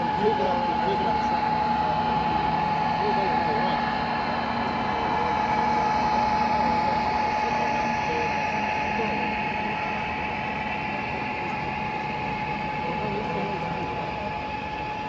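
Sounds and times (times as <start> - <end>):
many people talking: 0.0 - 15.0
steady tone: 0.0 - 15.0.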